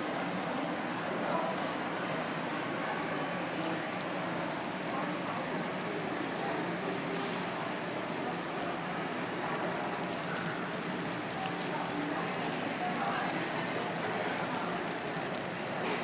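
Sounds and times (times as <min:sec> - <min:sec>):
diners chattering: 0:00.1 - 0:16.0.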